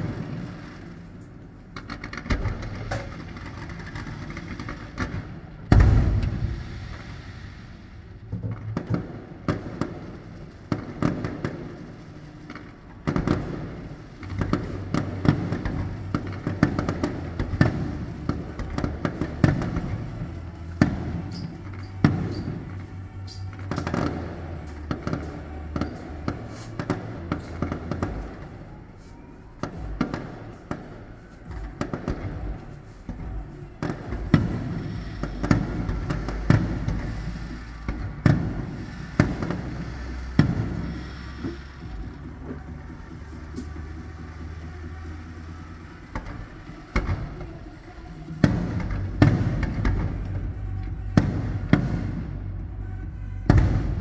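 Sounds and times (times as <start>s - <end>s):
low rumble: 0.0s - 11.0s, 11.8s - 54.0s
fireworks bangs and crackles: 0.0s - 54.0s.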